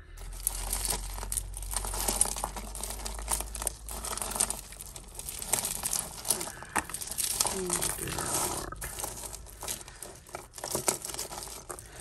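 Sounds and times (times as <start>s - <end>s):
beads and chains clicking: 0.0s - 12.0s
crinkling: 0.0s - 12.0s.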